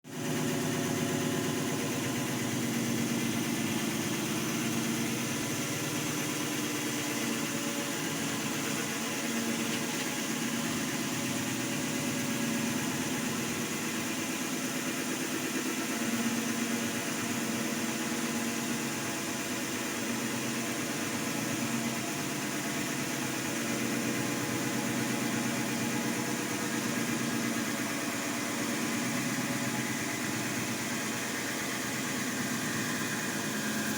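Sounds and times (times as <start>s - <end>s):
core drill boring a hole: 0.6s - 33.9s.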